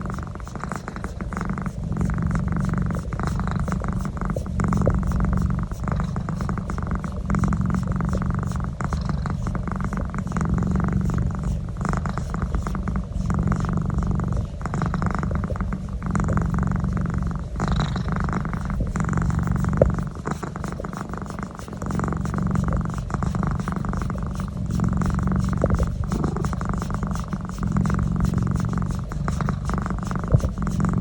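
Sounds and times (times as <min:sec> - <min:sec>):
cat purring loudly: 0:00.0 - 0:31.0.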